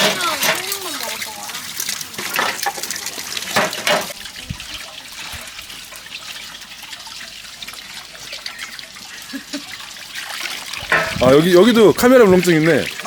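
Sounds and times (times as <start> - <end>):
dishes washed by hand: 0.0 - 13.0
tap water running and splashing: 0.0 - 13.0.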